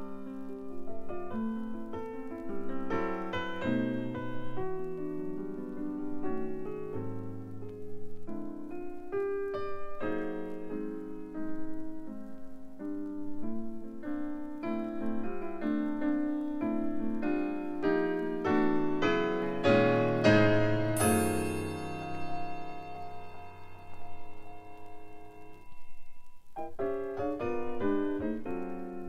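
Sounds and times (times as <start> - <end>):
jazz keyboard music: 0.0 - 29.0.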